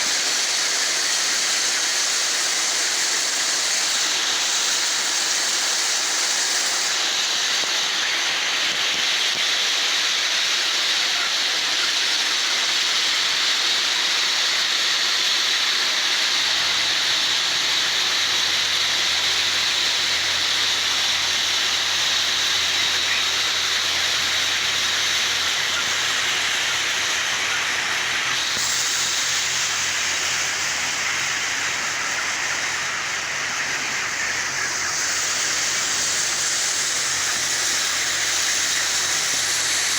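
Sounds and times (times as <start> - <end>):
steady hissing noise: 0.0 - 39.9.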